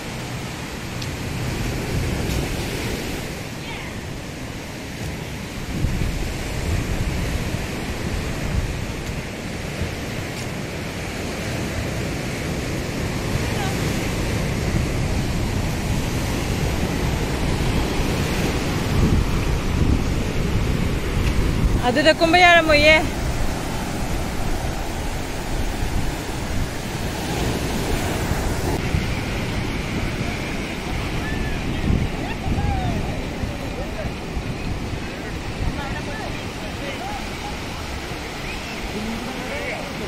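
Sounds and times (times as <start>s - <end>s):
ocean surf washing up beach: 0.0s - 40.0s
sea waves breaking: 0.0s - 40.0s
wind on microphone: 0.0s - 40.0s.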